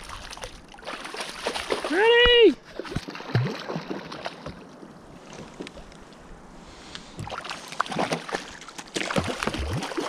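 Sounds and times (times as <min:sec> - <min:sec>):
water lapping against kayak hull: 0:00.0 - 0:10.0.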